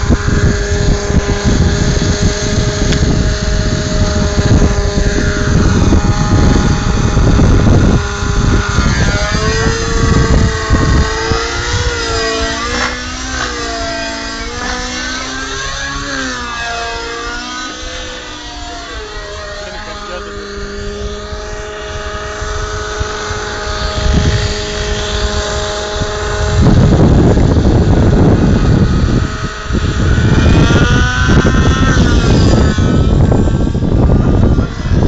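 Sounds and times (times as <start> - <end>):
model helicopter whining: 0.0 - 35.0
rumbling buffeting: 0.0 - 35.0.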